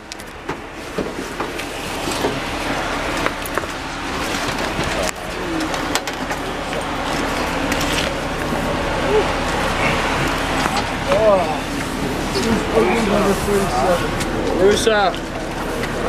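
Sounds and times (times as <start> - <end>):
faint voices: 0.7 - 16.0.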